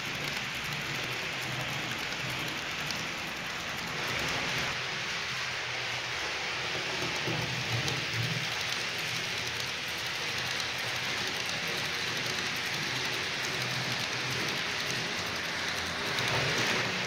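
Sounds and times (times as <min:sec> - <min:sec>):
model train wheels rattling on rails: 0:00.0 - 0:17.0.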